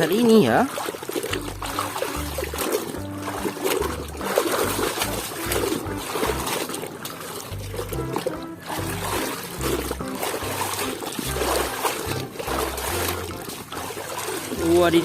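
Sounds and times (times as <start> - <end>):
water splashing and trickling: 0.0 - 15.0
background music with bass line: 1.3 - 6.7, 7.5 - 15.0.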